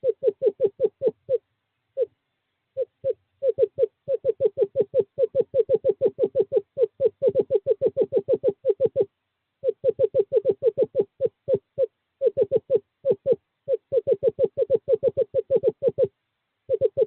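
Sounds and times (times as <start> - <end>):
owl hooting: 0.0 - 17.0.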